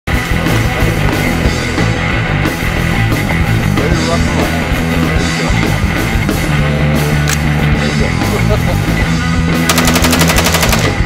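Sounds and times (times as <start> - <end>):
steady drum beat: 0.2 - 11.0.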